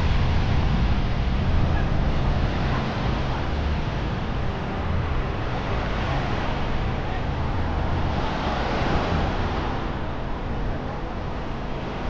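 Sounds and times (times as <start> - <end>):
outdoor noise: 0.0 - 12.0
wind buffeting microphone: 0.0 - 12.0.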